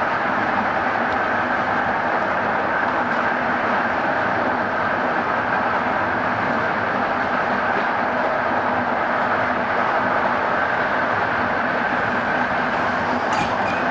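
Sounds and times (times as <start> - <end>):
train wheel and rail noise: 0.0 - 13.9.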